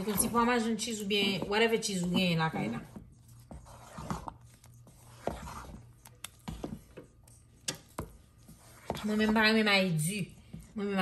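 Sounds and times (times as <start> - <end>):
soft wet stirring: 0.0 - 11.0.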